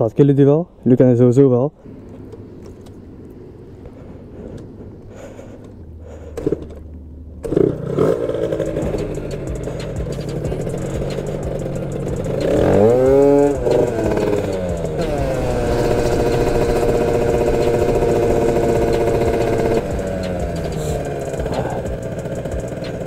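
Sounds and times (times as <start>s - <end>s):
scooter engine revving: 1.8s - 23.0s
vehicle cabin rumble: 1.8s - 23.0s.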